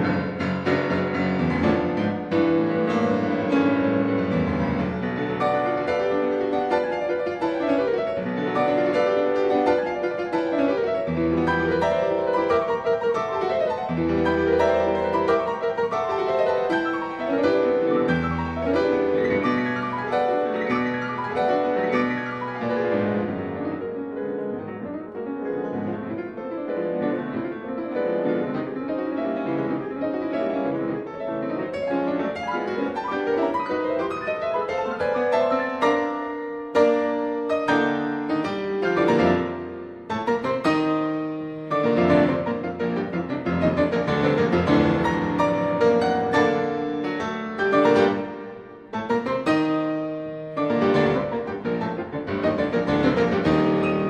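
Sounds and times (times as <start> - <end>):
classical piano music: 0.0 - 54.0.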